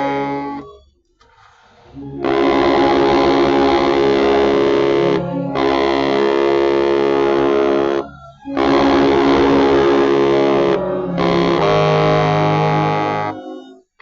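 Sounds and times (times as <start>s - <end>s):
baritone saxophone low notes: 0.0s - 0.6s, 1.9s - 13.8s.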